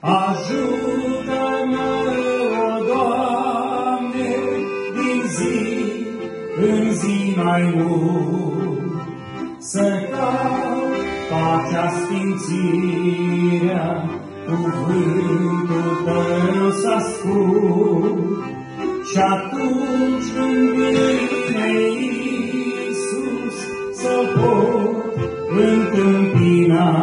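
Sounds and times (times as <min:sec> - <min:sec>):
man singing a hymn: 0:00.0 - 0:27.0
piano accordion: 0:00.0 - 0:27.0.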